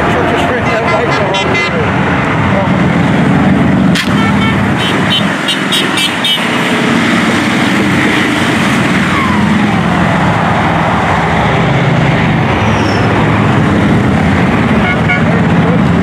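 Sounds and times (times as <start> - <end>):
motorcycles and traffic passing: 0.0 - 16.0.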